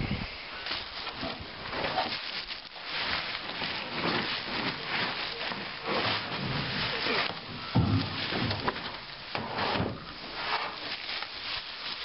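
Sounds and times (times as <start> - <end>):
plastic wrapping crinkling: 0.6 - 9.4, 10.0 - 12.0.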